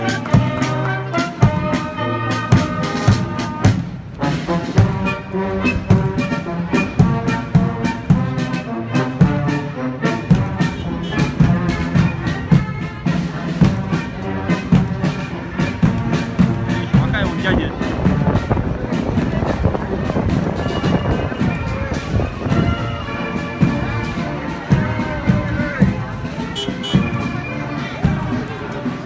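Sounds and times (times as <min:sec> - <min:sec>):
marching brass band playing: 0:00.0 - 0:29.0.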